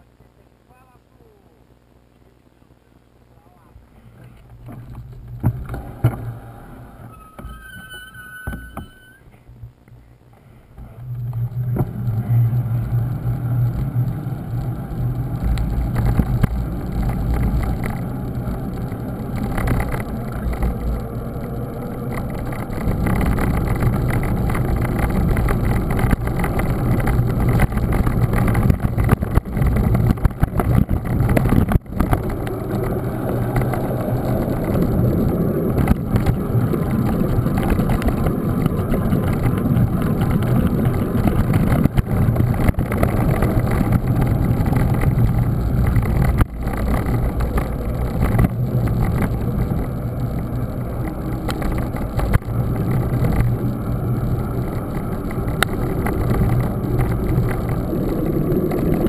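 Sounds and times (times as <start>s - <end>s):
bike tyre and frame rumble: 3.8s - 59.0s
wind buffeting microphone: 11.1s - 59.0s.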